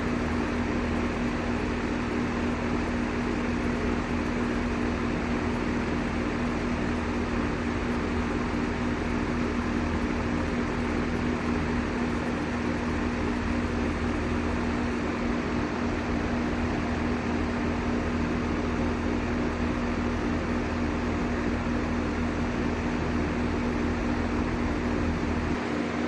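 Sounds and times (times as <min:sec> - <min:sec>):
compressor hum: 0:00.0 - 0:26.0
fan rushing: 0:00.0 - 0:26.0.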